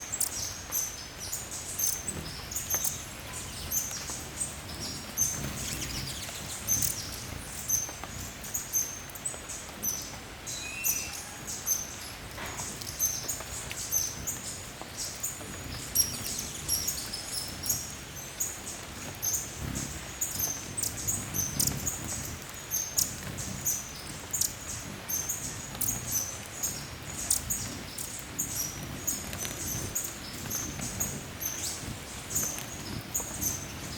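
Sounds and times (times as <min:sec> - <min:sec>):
hummingbird chip calls: 0:00.1 - 0:33.9.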